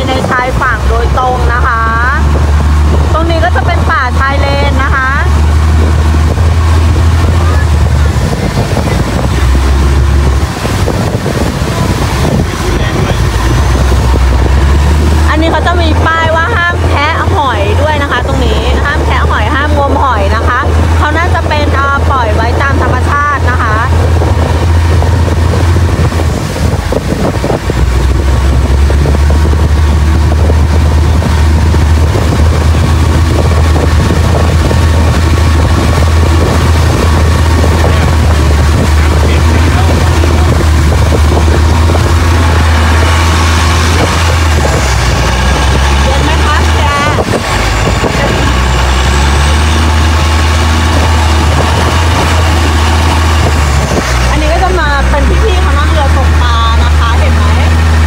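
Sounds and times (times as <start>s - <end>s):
churning boat wake: 0.0s - 58.0s
motorboat engine droning: 0.0s - 58.0s
wind buffeting microphone: 0.0s - 58.0s.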